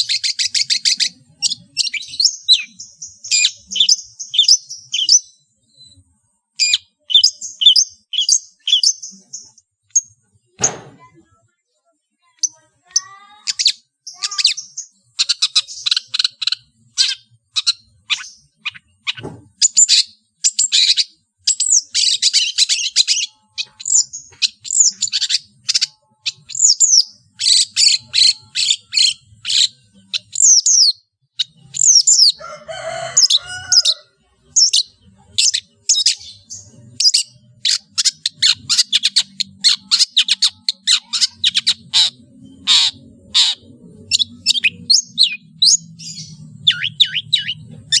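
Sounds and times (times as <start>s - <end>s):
bird singing rapid varied song: 0.0s - 11.1s, 12.2s - 33.8s, 34.4s - 48.0s.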